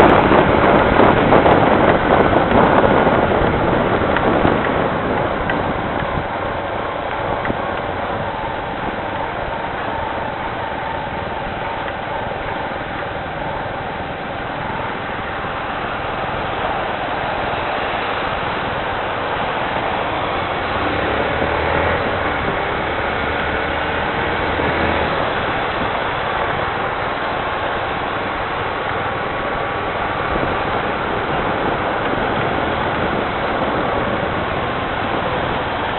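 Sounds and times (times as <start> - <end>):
deep engine rumble: 0.0 - 35.9
rain on street: 0.0 - 35.9
vehicle engines running: 0.0 - 35.9.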